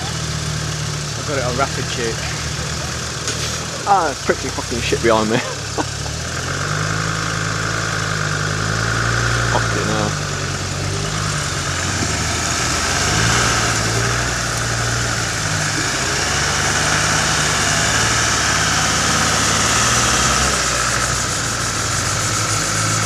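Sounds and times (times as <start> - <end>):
truck engine at low revs: 0.0 - 23.0.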